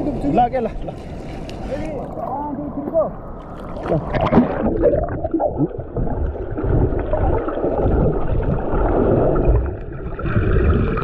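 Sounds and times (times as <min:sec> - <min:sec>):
underwater gurgling and sloshing: 0:00.0 - 0:11.0
low underwater rumble: 0:02.1 - 0:11.0.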